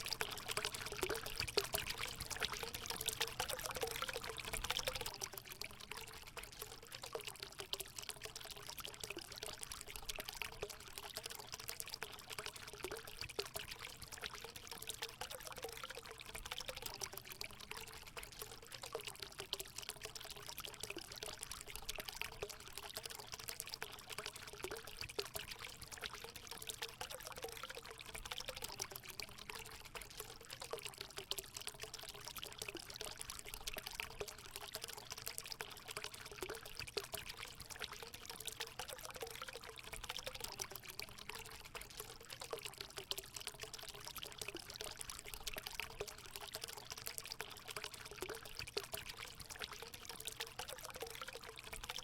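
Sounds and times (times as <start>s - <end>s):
water pouring and splashing into pool: 0.0s - 52.0s.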